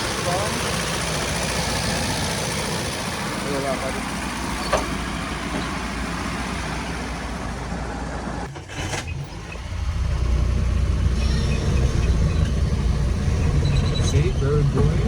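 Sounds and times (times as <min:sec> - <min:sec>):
truck petrol engine running: 0:00.0 - 0:15.0.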